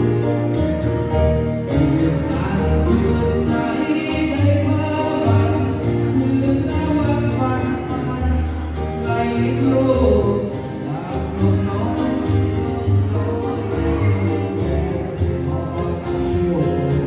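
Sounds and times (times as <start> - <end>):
song with singing and band: 0.0 - 17.0.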